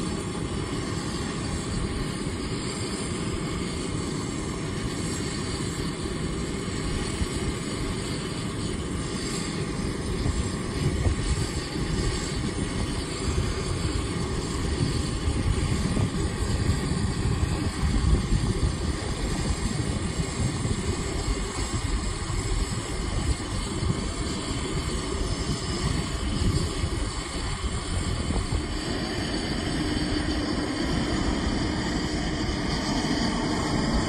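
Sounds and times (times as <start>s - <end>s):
distant jet flying over: 0.0s - 34.0s.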